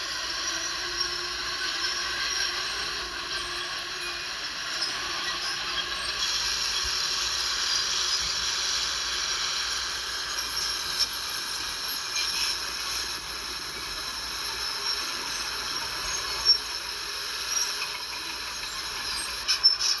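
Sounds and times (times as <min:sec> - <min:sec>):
bulldozer hiss and squeal: 0:00.0 - 0:20.0.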